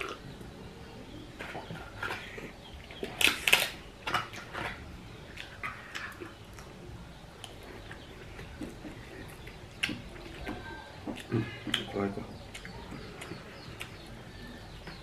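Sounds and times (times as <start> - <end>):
chewing and lip-smacking: 1.4 - 6.8, 7.4 - 14.3.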